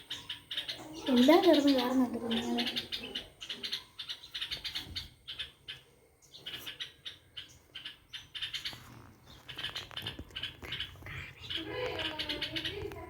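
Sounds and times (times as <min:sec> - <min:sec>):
nestling birds chirping: 0:00.0 - 0:13.0.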